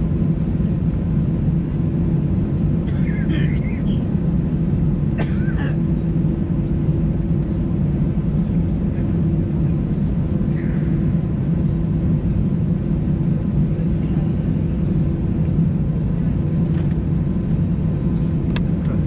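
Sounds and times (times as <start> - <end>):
airliner engines idling: 0.0 - 19.0.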